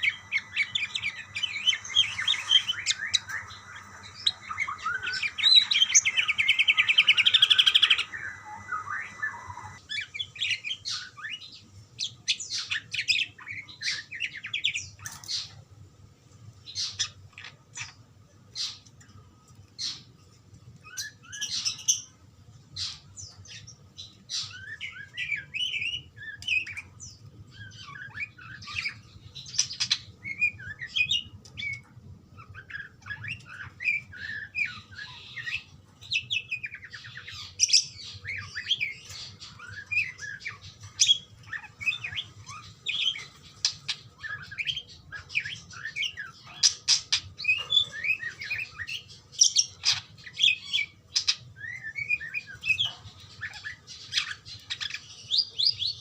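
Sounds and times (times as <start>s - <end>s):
budgerigars chirping and warbling: 0.0s - 15.6s, 16.6s - 18.9s, 20.9s - 22.1s, 22.8s - 56.0s
faint low hum: 0.0s - 56.0s.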